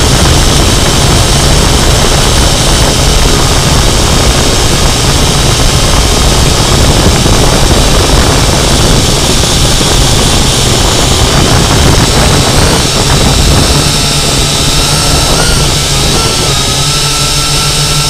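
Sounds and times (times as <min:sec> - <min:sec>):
drone motors buzzing: 0:00.0 - 0:18.0.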